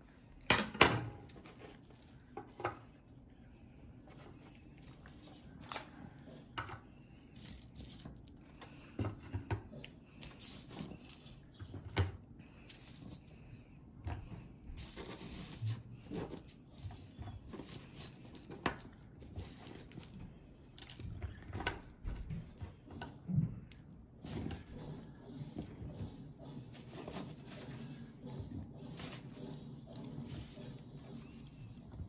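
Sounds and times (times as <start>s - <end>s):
parchment paper rustling: 1.3s - 11.8s, 12.4s - 32.0s.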